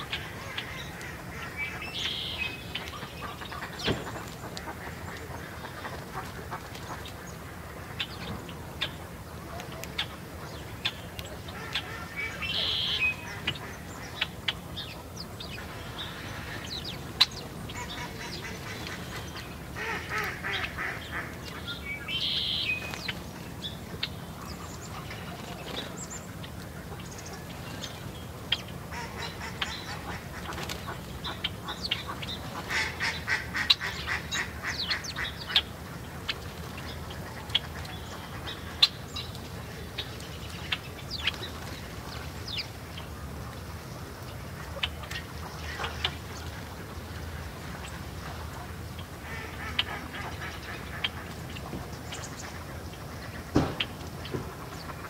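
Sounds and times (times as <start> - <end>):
songbirds buzzy call notes: 0.0 - 55.0.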